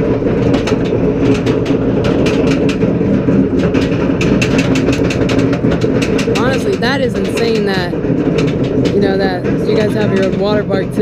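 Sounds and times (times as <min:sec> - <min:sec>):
chain lift mechanical drone: 0:00.0 - 0:11.0.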